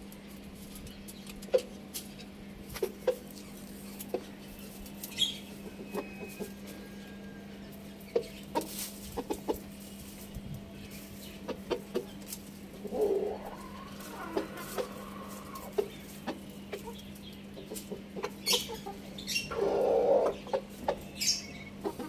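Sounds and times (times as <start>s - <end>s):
steady low hum: 0.0s - 22.0s
chickens clucking: 0.1s - 22.0s
chickens scratching in straw: 0.4s - 22.0s.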